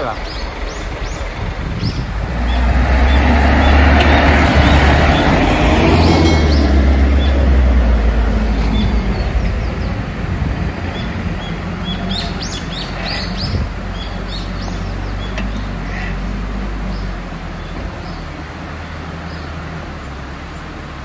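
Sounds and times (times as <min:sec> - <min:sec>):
birds chirping: 0:00.0 - 0:21.0
truck diesel engine pulling away: 0:00.0 - 0:21.0.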